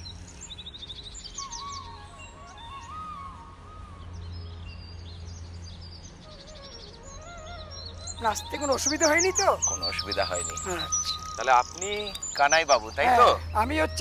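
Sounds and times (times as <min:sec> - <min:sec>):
birds chirping and twittering: 0:00.0 - 0:14.0
low steady hum: 0:00.0 - 0:14.0
wavering whistled bird call: 0:01.2 - 0:05.0, 0:06.2 - 0:14.0.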